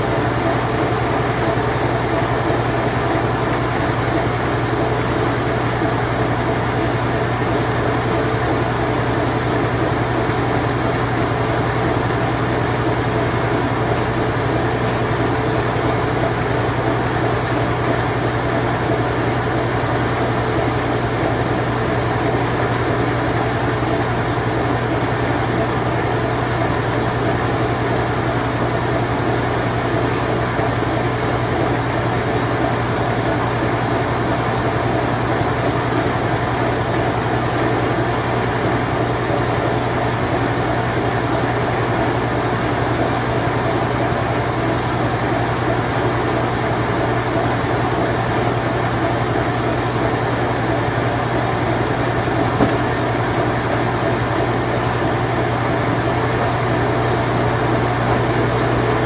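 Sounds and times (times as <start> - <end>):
washing machine spinning: 0.0 - 59.0.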